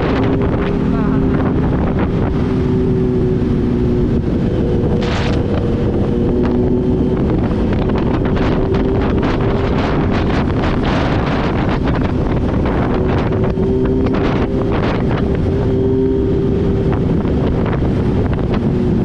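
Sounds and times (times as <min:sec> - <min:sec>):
motorcycle engine cruising: 0:00.0 - 0:19.0
wind buffeting on microphone: 0:00.0 - 0:19.0.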